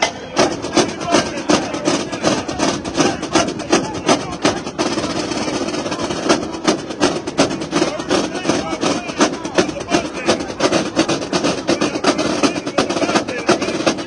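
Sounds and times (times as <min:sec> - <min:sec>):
snare drums playing fast cadence: 0:00.0 - 0:14.0.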